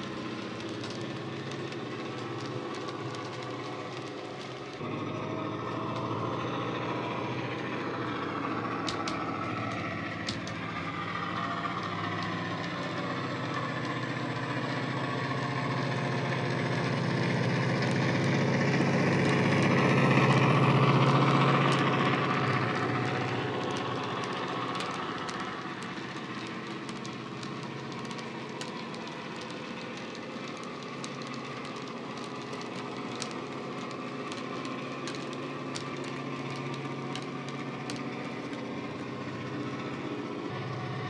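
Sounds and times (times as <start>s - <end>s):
diesel engine sound through speaker: 0.0s - 41.0s
model train wheels on track: 0.0s - 41.0s.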